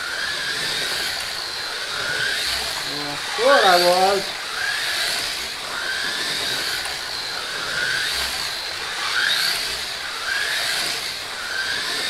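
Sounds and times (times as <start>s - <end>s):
slot car motors whirring: 0.0s - 12.0s.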